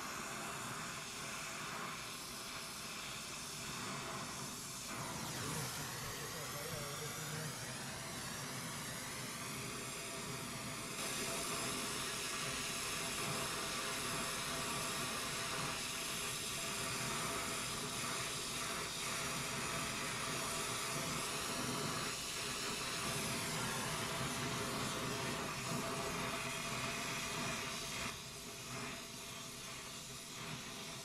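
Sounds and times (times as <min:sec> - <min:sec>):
torch flame hissing: 0:00.0 - 0:31.0.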